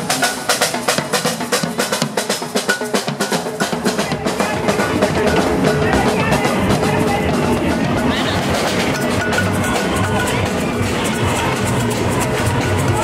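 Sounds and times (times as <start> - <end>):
samba drumming: 0.0 - 13.0.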